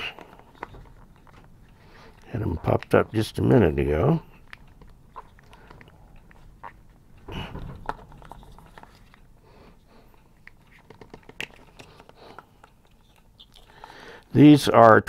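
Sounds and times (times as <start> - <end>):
plastic clicks and rubbing: 0.0 - 3.6, 4.4 - 9.3, 10.2 - 13.9.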